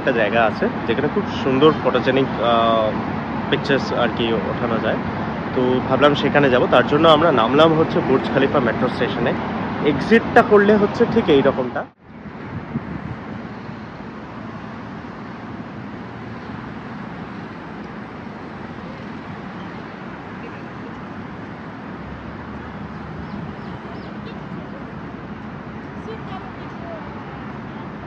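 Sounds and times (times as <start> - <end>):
distant road traffic: 0.0 - 28.0.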